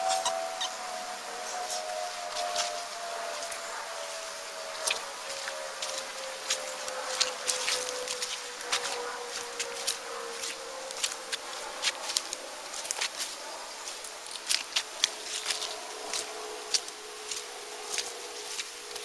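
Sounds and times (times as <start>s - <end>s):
footsteps through dry grass: 0.0s - 19.0s
twigs crackling and snapping: 0.1s - 19.0s.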